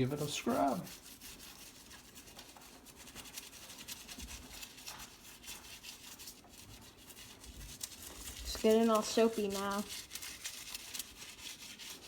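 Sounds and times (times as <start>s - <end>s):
toothbrush scrubbing metal: 0.0s - 12.0s.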